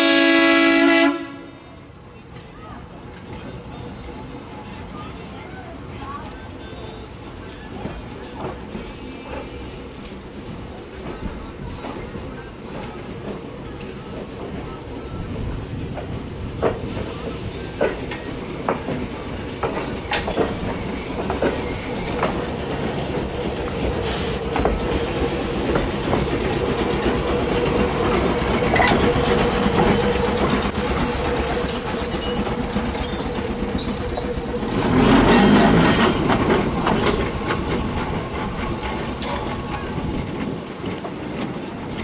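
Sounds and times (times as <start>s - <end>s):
trolley wheels clicking over rails: 2.3s - 42.0s.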